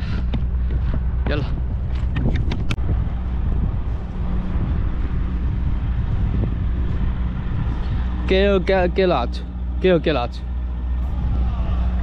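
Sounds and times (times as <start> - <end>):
road and wind noise: 0.0 - 12.0
vehicle engine humming: 0.0 - 12.0.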